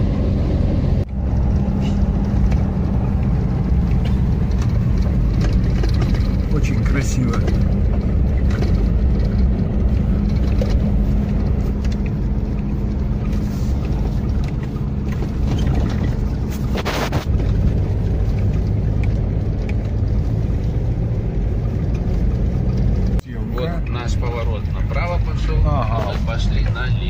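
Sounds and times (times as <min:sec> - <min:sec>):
car driving road noise: 0:00.0 - 0:27.0.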